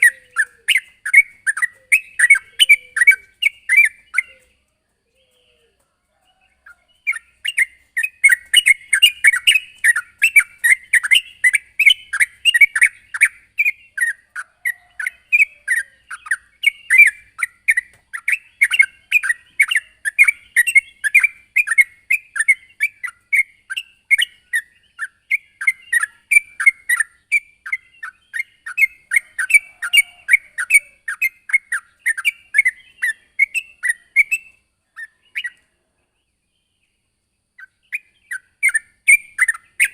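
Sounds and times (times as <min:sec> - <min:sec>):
bird chirping rapidly: 0:00.0 - 0:04.6, 0:06.5 - 0:35.6, 0:37.4 - 0:39.9.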